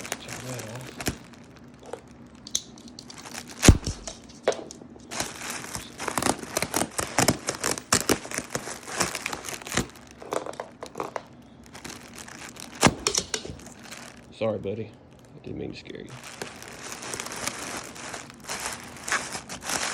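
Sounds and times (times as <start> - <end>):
bubble wrap crackling: 0.0 - 19.9.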